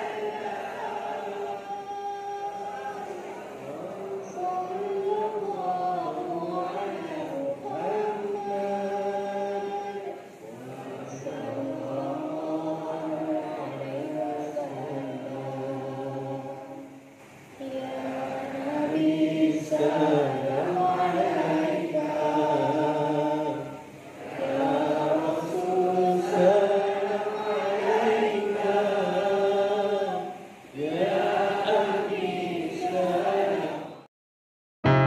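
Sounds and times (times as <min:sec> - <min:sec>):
group of students singing: 0:00.0 - 0:34.1.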